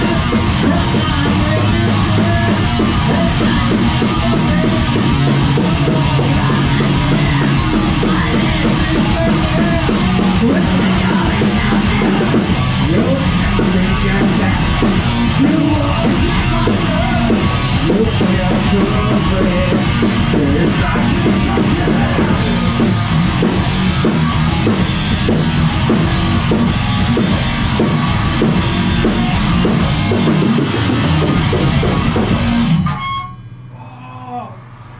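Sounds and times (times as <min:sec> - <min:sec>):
pounding drum kit: 0:00.0 - 0:33.1
distorted electric guitar: 0:00.0 - 0:33.8.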